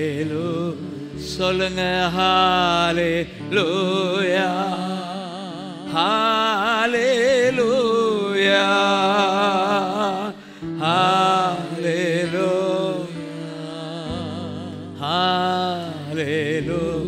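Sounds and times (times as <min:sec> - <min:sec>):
person singing with vibrato: 0:00.0 - 0:17.0
steady held chord: 0:00.0 - 0:17.0.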